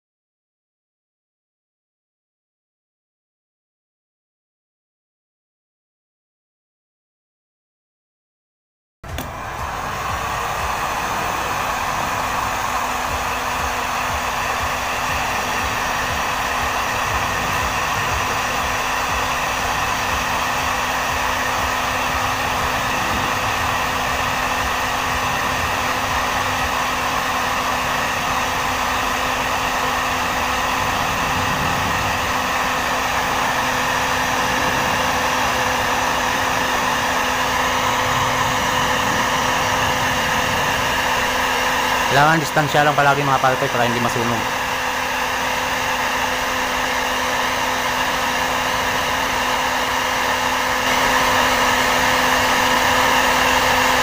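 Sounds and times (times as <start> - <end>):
heat gun blowing with motor hum: 9.0 - 54.0.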